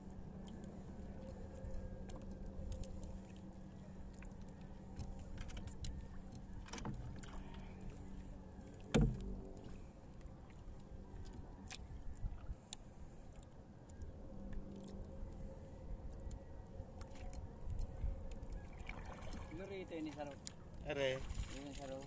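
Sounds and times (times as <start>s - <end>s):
boat engine low hum: 0.0s - 22.0s.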